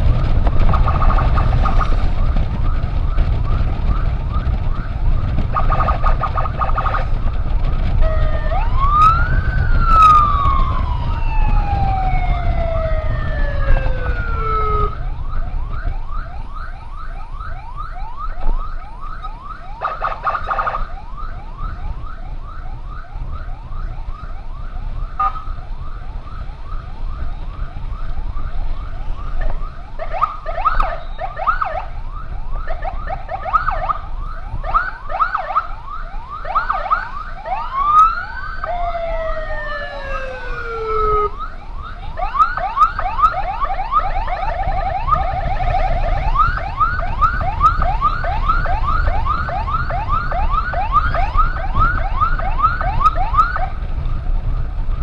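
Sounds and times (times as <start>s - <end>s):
siren wailing: 0.0s - 55.0s
siren yelping: 0.2s - 53.8s.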